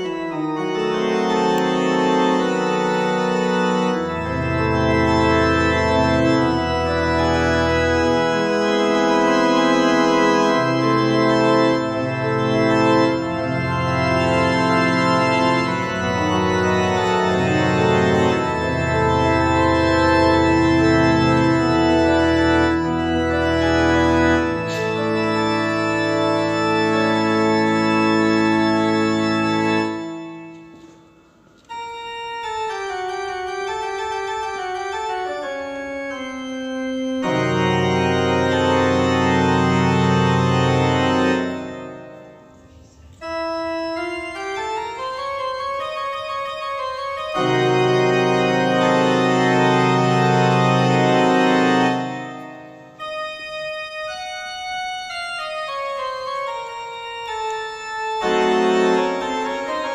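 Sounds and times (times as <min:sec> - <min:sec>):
organ music: 0:00.0 - 0:59.9.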